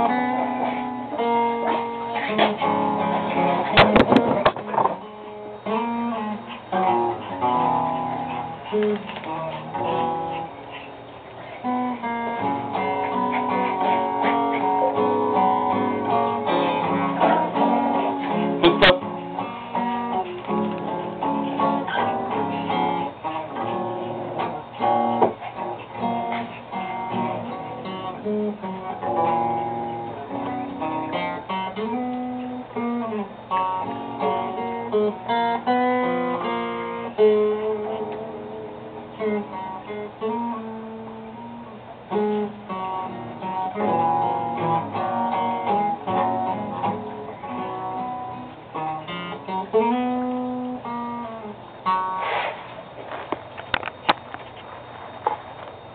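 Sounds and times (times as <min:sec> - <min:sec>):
acoustic guitar music: 0:00.0 - 0:55.9.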